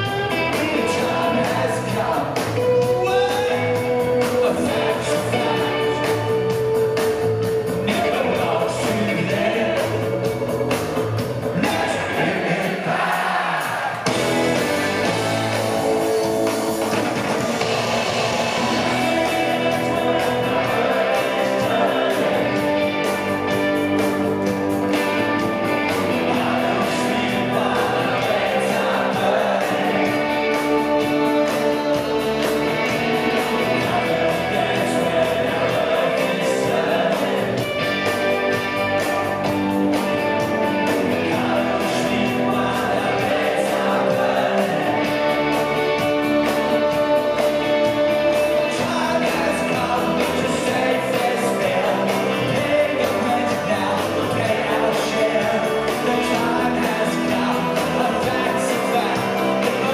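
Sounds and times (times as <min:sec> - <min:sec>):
person singing: 0:00.0 - 0:10.3, 0:18.2 - 0:38.5, 0:40.6 - 0:47.6, 0:48.2 - 0:59.9
electric bass: 0:00.0 - 0:12.4, 0:14.0 - 0:59.9
electric guitar: 0:00.0 - 0:13.0, 0:13.9 - 0:59.9
drums: 0:00.0 - 0:59.9.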